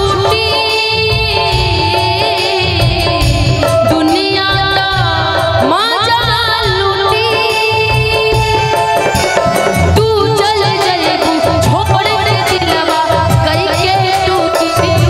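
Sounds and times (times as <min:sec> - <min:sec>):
keyboard: 0:00.0 - 0:15.0
live band accompaniment: 0:00.0 - 0:15.0
steady drum beat: 0:00.0 - 0:15.0
woman singing into microphone: 0:00.0 - 0:15.0.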